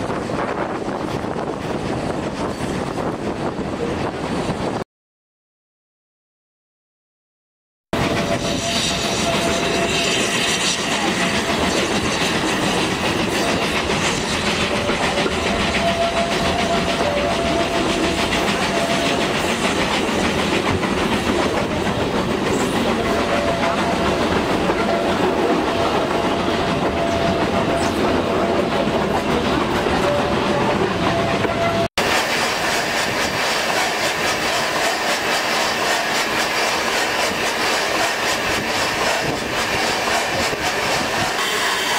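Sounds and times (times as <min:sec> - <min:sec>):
train wheels rumbling and clattering: 0:00.0 - 0:04.8, 0:08.0 - 0:41.9.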